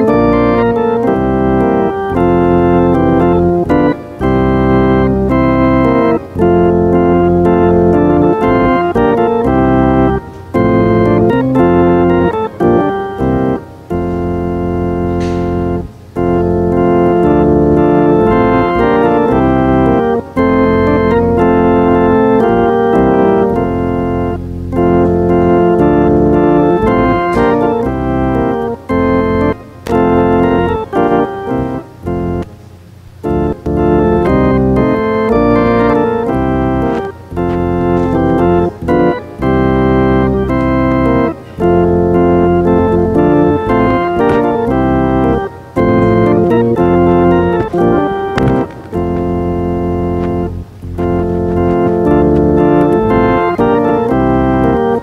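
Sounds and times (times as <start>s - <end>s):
organ chords: 0.0s - 55.0s.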